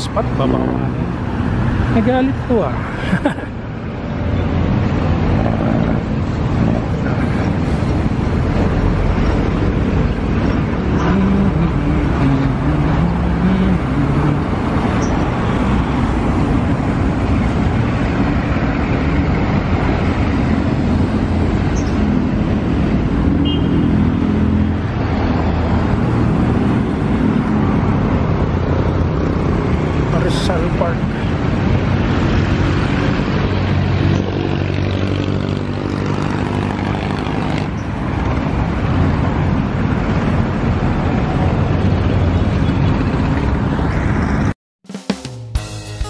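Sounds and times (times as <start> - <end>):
road traffic passing: 0.0 - 44.6.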